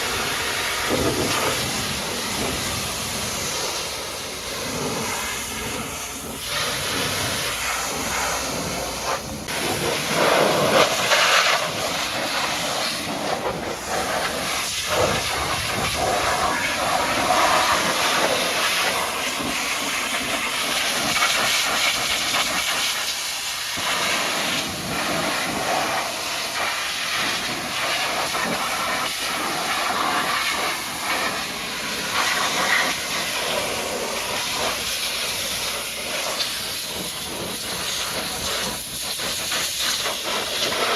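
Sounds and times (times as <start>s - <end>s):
pressure washer spraying hiss: 0.0s - 40.9s.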